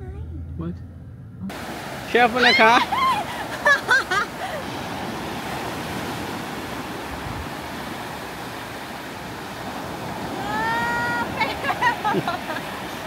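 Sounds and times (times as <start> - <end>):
small waves washing on sand: 1.5 - 13.0.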